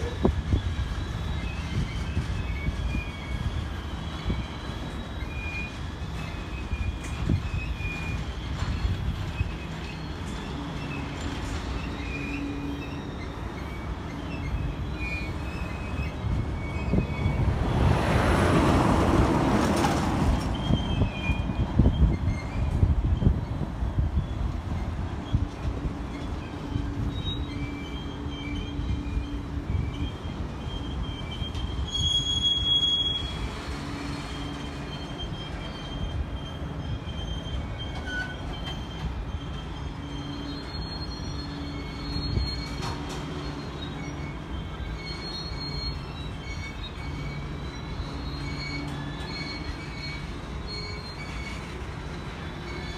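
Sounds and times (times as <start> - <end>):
train wheels rumbling on rail: 0.0 - 52.9
wheel squeals: 0.0 - 52.9.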